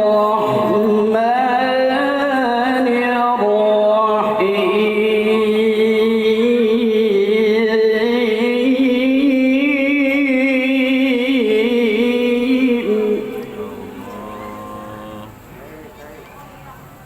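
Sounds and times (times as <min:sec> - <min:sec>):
man chanting melodically: 0:00.0 - 0:16.2.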